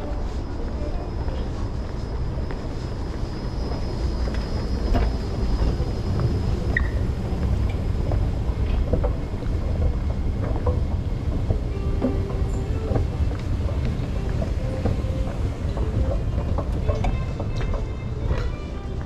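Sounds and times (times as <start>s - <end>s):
escalator rumbling: 0.0s - 19.0s.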